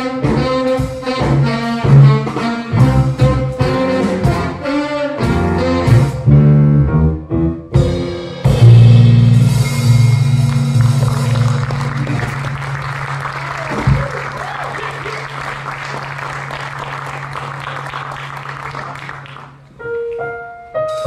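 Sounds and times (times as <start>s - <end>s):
jazz big band playing: 0.0s - 21.0s.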